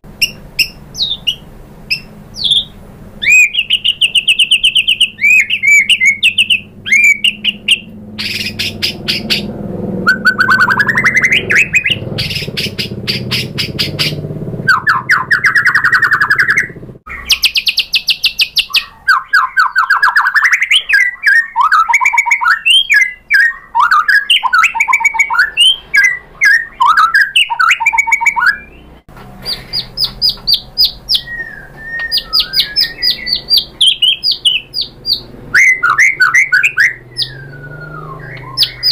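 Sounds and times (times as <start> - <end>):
bird singing trills and whistles: 0.2 - 38.9.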